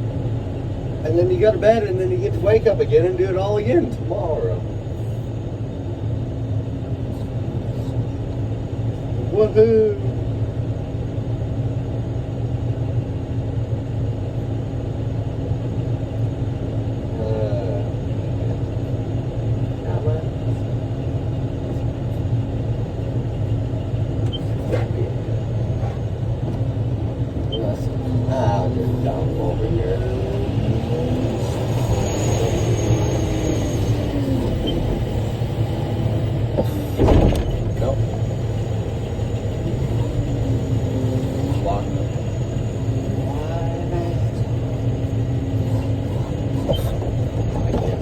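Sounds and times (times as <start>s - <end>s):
truck diesel engine droning: 0.0s - 48.0s.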